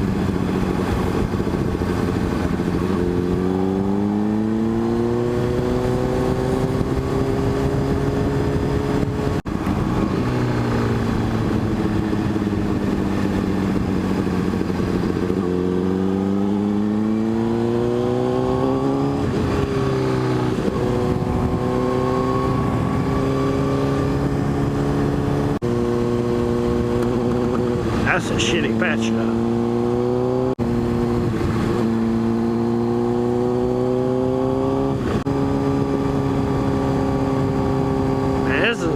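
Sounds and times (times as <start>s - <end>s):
motorcycle engine revving: 0.0s - 38.9s
wind rush: 0.0s - 38.9s.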